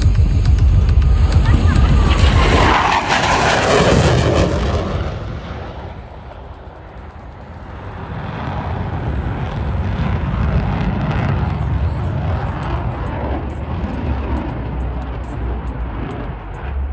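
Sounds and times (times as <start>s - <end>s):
airplane engine flying overhead: 0.0s - 16.9s.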